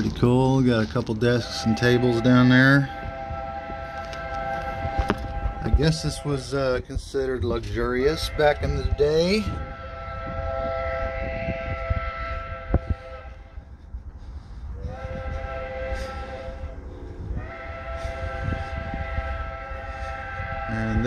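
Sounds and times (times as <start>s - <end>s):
locomotive air horn blasts: 0.0s - 21.0s.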